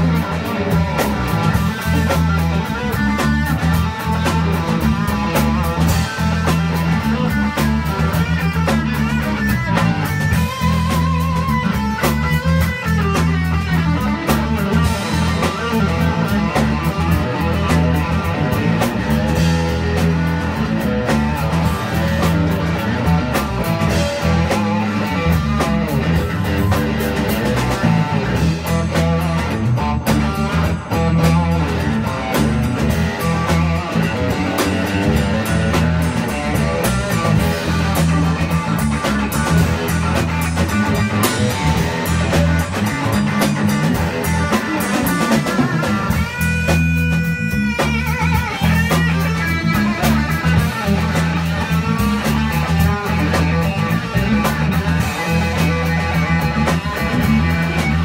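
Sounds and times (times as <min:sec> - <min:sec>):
electric bass: 0:00.0 - 0:58.0
electric guitar lead: 0:00.0 - 0:58.0.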